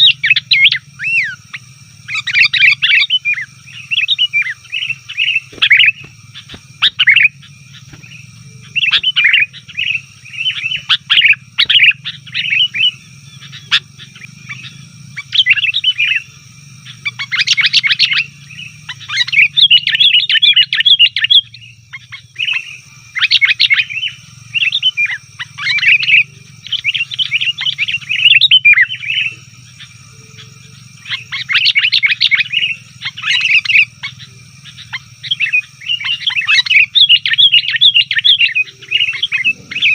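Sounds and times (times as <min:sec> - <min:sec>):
bulbuls chattering calls: 0:00.0 - 0:39.9.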